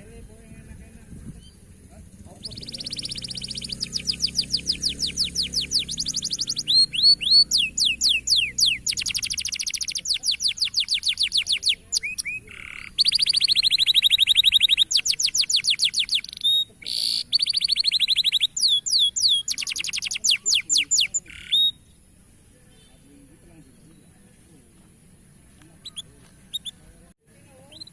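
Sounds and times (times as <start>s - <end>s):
canary singing rapid trills: 1.3s - 24.2s, 25.8s - 26.8s, 27.6s - 27.9s.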